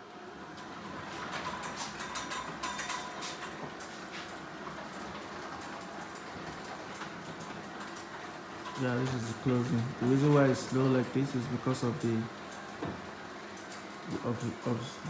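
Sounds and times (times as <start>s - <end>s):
garage door opener running: 0.0s - 15.0s.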